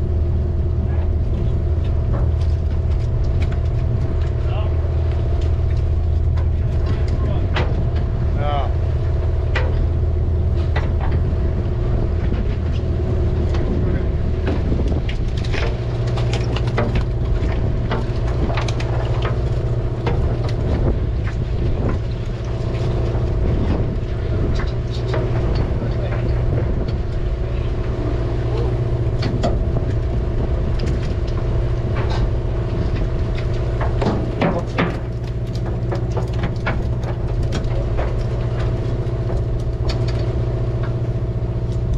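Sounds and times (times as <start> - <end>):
boat engine droning: 0.0 - 41.9.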